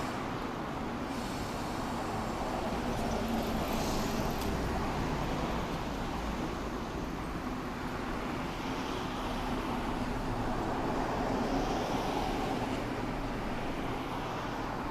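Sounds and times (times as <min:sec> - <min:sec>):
rumble of passing vehicles: 0:00.0 - 0:14.9.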